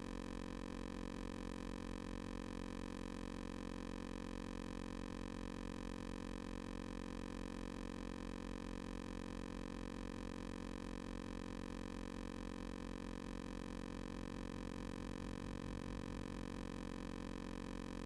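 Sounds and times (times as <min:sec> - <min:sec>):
electrical hum with buzzing: 0:00.0 - 0:18.0.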